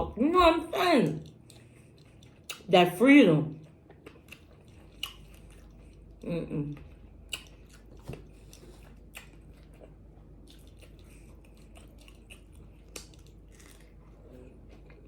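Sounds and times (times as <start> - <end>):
chewing food: 1.0 - 2.7, 3.5 - 15.0.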